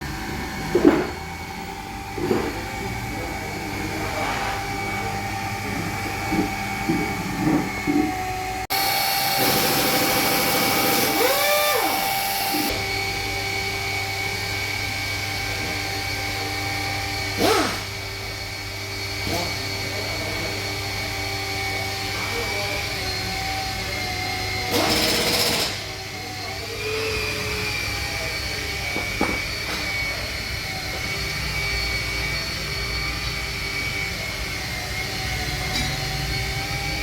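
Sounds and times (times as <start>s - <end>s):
electric polisher whining: 0.0s - 37.0s.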